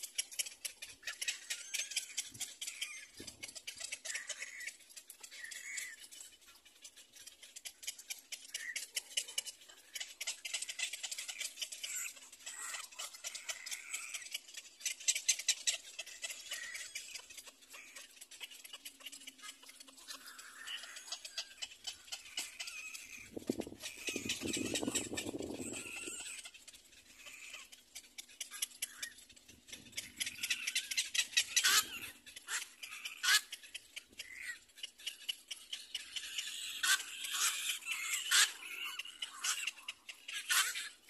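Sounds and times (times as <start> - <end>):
chick rapid dry clicking: 0.0 - 41.0.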